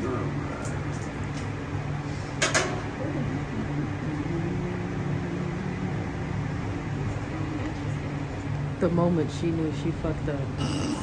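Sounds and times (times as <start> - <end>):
ventilation hum: 0.0 - 11.0.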